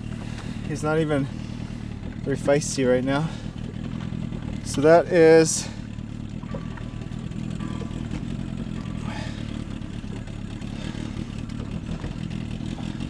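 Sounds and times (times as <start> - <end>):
boat motor idling: 0.0 - 13.0.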